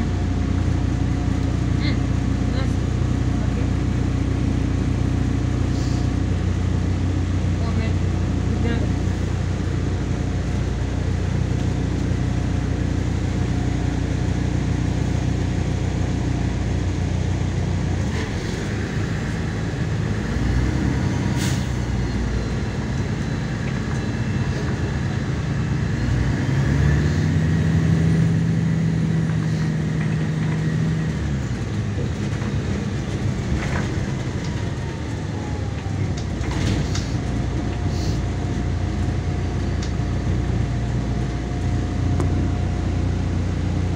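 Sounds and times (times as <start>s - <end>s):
bus diesel engine humming: 0.0s - 43.9s
road noise: 0.0s - 43.9s.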